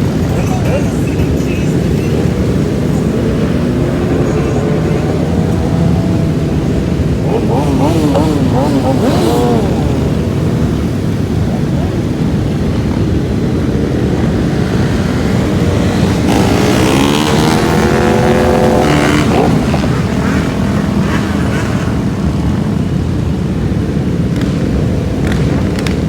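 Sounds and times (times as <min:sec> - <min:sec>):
motorcycle passing close: 0:00.0 - 0:26.0
motorcycles riding by: 0:00.0 - 0:26.0.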